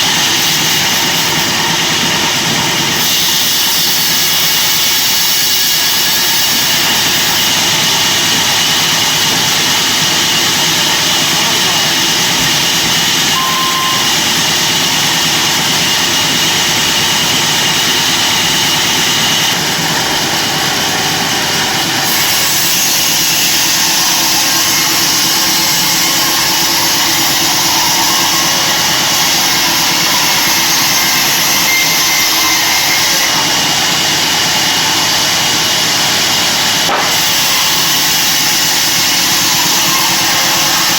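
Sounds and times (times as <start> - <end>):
bandsaw hissing whine: 0.0 - 40.9.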